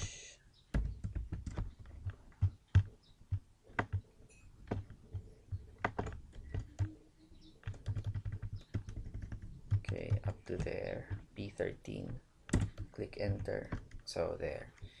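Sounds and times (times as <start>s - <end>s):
keyboard and mouse clicking: 0.7s - 4.0s, 4.7s - 11.4s, 12.0s - 14.1s.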